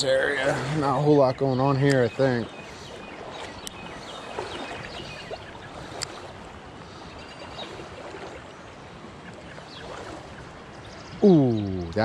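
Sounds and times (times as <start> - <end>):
creek water over rocks: 0.0 - 12.0.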